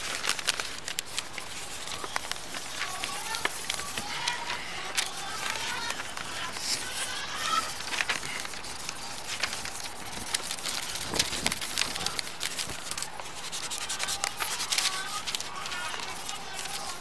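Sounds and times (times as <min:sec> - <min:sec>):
drawing tool scratching paper: 0:00.0 - 0:17.0.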